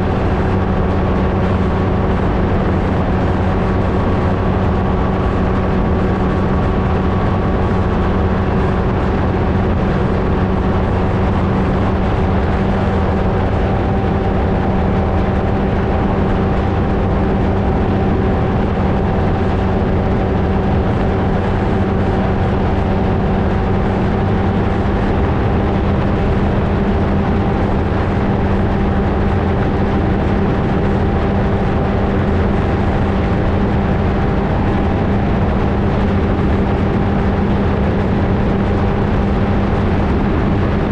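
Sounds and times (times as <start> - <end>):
ultralight aircraft engine and propeller: 0.0 - 40.9.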